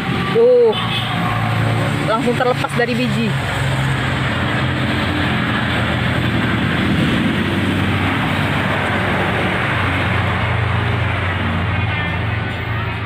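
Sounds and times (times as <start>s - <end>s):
motor vehicle engine running: 0.0s - 13.0s.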